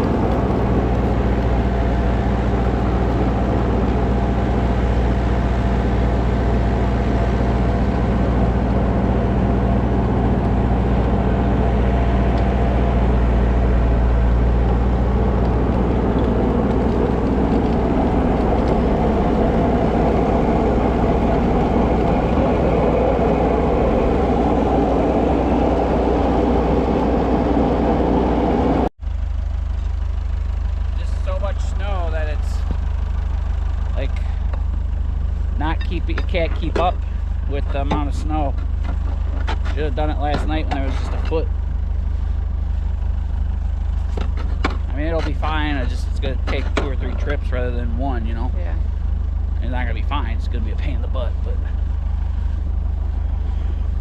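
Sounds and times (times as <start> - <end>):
tractor engine droning: 0.0 - 54.0.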